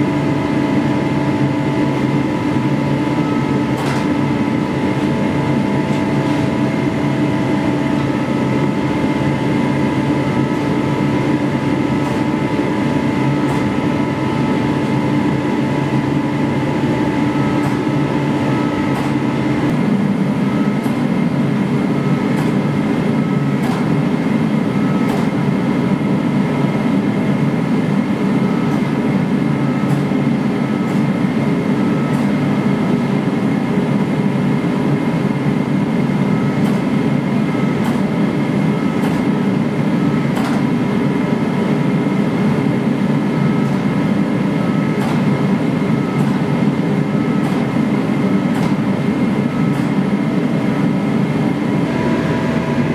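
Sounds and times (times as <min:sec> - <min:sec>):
gas forge burners roaring: 0:00.0 - 0:52.9
thin steady whine: 0:00.0 - 0:52.9.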